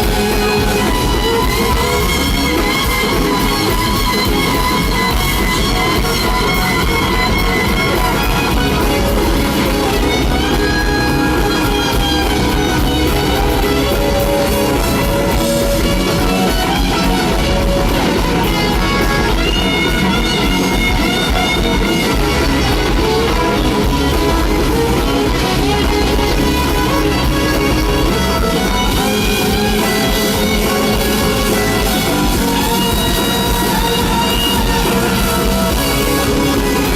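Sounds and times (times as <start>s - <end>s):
electric guitar lead: 0.0s - 36.9s
live blues band: 0.0s - 36.9s.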